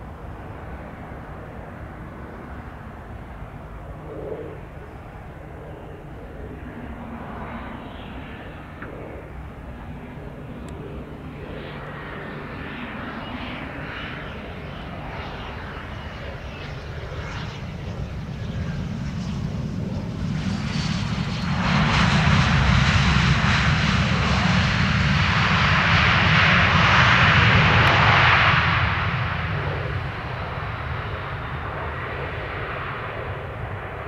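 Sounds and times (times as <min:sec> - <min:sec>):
jet rumble with faint whine: 0:00.0 - 0:34.0
loud jet engine rush: 0:00.0 - 0:34.0.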